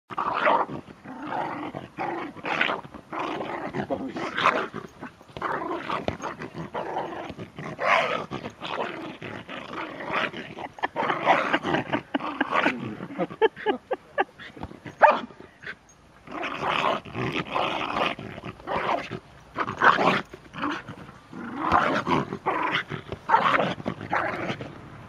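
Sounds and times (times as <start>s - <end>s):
dog growling and yapping: 0.1s - 24.8s.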